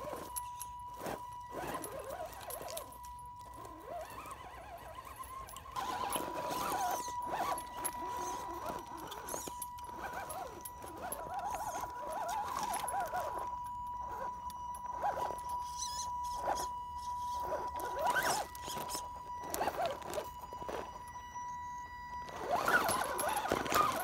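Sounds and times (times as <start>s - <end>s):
electric motor whining: 0.0s - 24.0s
wavering squeal: 0.0s - 24.0s.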